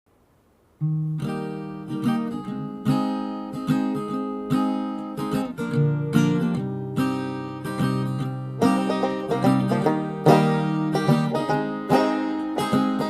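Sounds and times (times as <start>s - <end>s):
strummed acoustic guitar: 0.8s - 13.0s.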